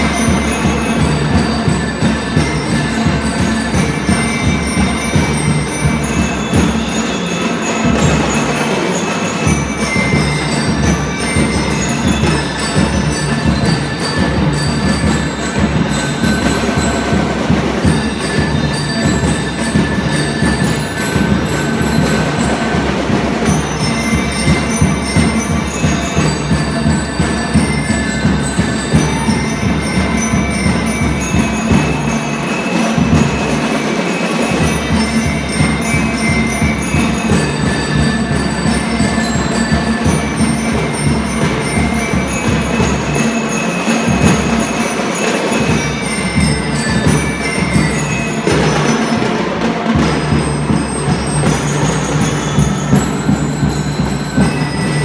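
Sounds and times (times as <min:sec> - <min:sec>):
bell lyre melody: 0:00.0 - 0:55.0
marching drums: 0:00.0 - 0:55.0.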